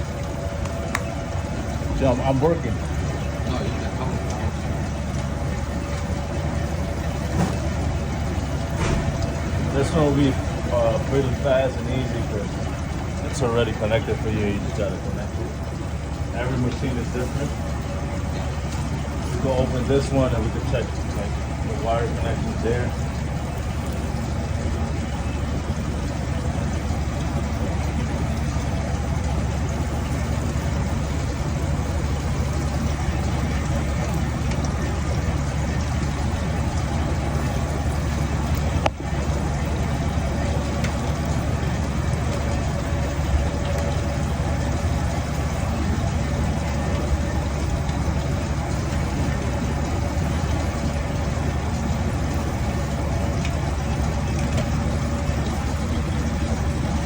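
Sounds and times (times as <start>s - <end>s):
machinery droning hum: 0.0s - 57.0s.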